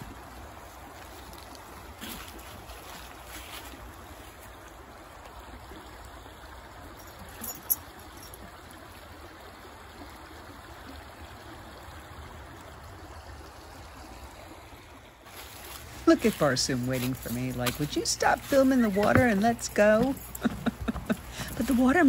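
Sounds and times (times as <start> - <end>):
stream babbling over rocks: 0.0 - 22.0.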